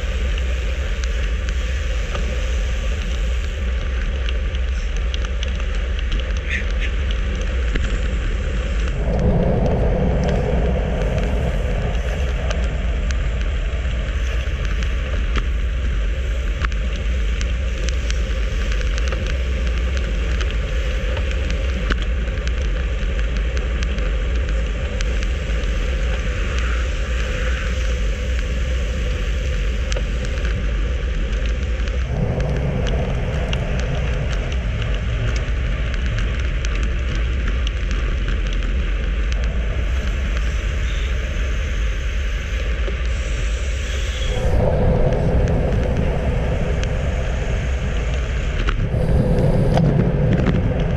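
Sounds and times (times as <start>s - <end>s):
tyre noise on asphalt: 0.0s - 50.9s
wind rushing over microphone: 0.0s - 50.9s.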